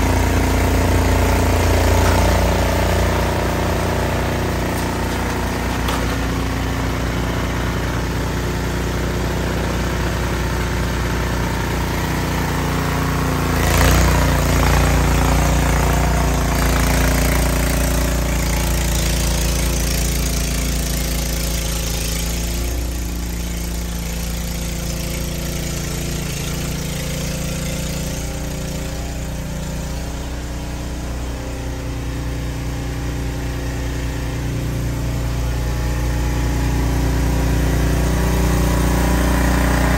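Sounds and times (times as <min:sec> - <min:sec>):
snowblower running: 0:00.0 - 0:39.9.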